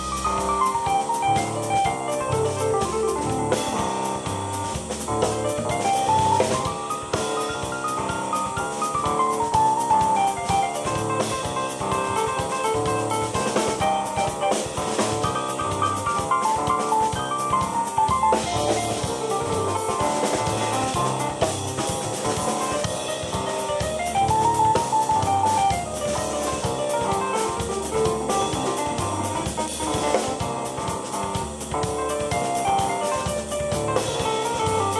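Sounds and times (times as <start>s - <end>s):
drum beat with cymbals: 0.0s - 34.9s.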